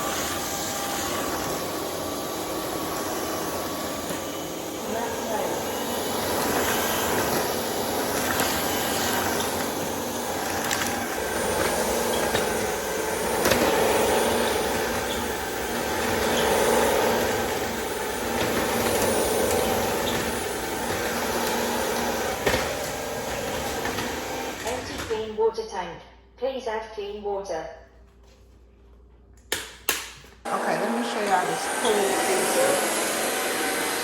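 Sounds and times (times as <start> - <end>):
floor vacuum running: 0.0 - 25.4, 30.2 - 34.0.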